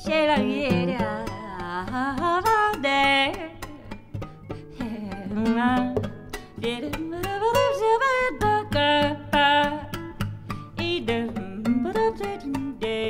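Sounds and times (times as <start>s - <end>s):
plucked acoustic guitar: 0.0s - 13.0s
woman singing wordless lines: 0.0s - 13.0s.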